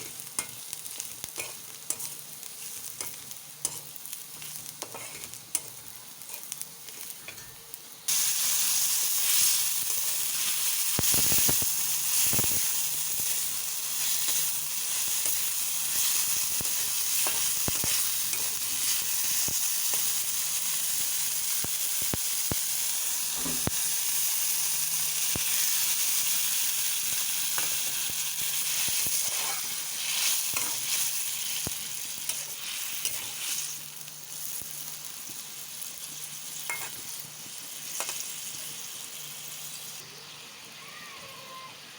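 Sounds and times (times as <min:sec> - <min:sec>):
food frying in hot oil: 0:00.0 - 0:41.9.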